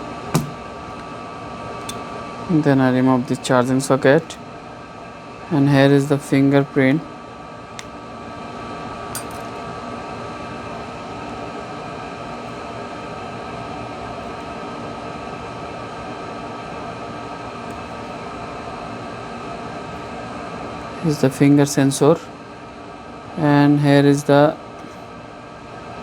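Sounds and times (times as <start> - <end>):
mechanical hum with hiss: 0.0 - 26.0.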